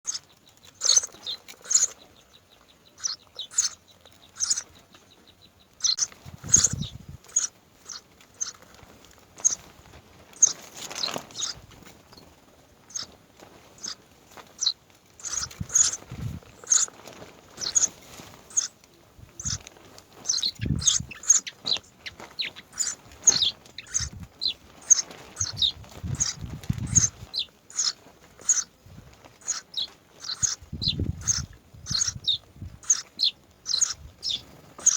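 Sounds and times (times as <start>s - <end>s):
bird trill: 0.0s - 8.6s, 9.4s - 9.6s, 10.4s - 11.6s, 12.9s - 13.1s, 13.8s - 17.0s, 17.6s - 18.8s, 19.4s - 19.6s, 20.2s - 28.7s, 29.4s - 34.9s
birds chirping: 0.0s - 9.7s, 10.3s - 34.9s.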